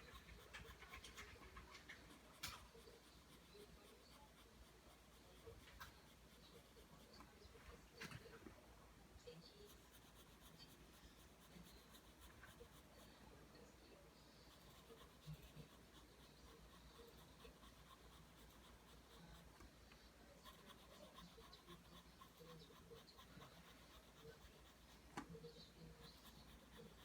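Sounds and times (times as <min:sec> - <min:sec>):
pencil scratching on paper: 0:00.0 - 0:08.3, 0:09.3 - 0:27.0.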